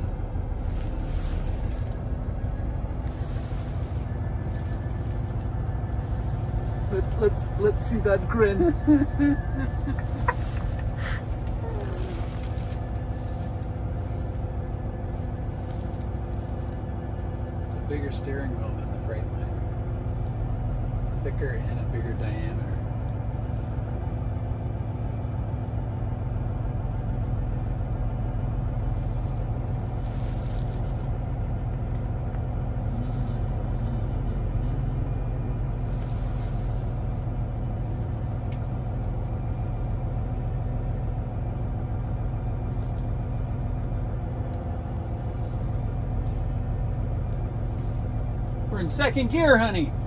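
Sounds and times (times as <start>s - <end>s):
diesel engine low rumble: 0.0s - 50.0s
road noise: 0.0s - 50.0s.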